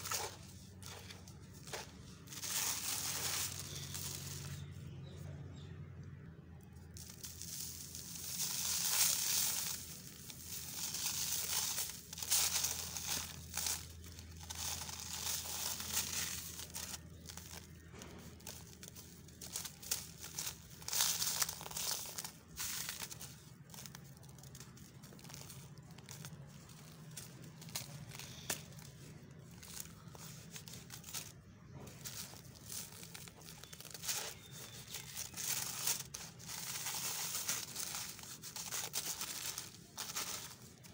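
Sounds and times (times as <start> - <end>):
grains trickling onto crinkling paper: 0.0 - 4.8, 6.6 - 40.9
dry cement mix crunching by hand: 0.0 - 5.0, 6.6 - 40.9.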